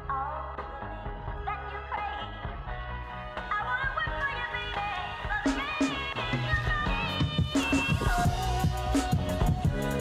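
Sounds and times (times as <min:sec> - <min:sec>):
melodic music with drum beat: 0:00.0 - 0:10.0.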